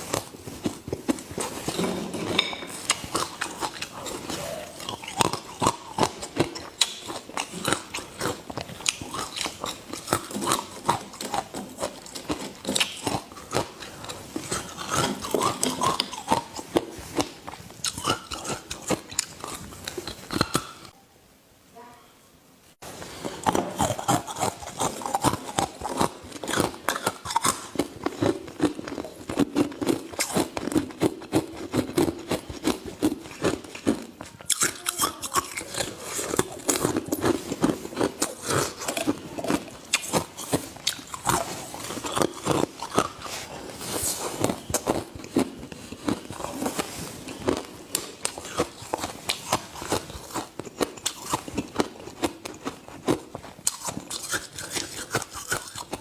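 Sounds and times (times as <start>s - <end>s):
person chewing ice: 0.0s - 21.0s, 23.1s - 56.0s.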